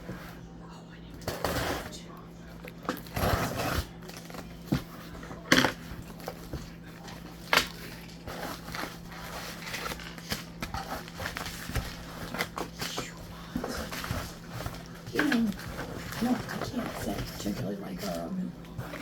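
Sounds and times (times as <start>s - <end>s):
packaging crackling and rustling: 2.7s - 19.0s.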